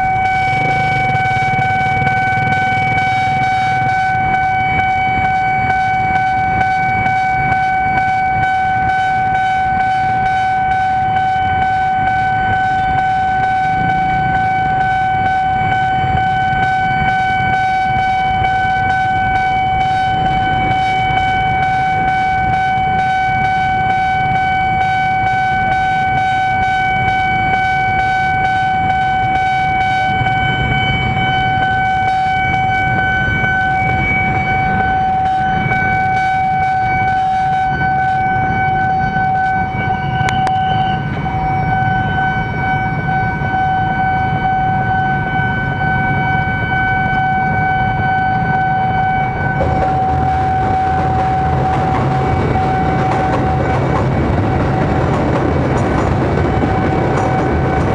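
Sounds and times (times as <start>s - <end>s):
level-crossing alarm tone: 0.0s - 57.9s
low traffic rumble: 0.0s - 57.9s.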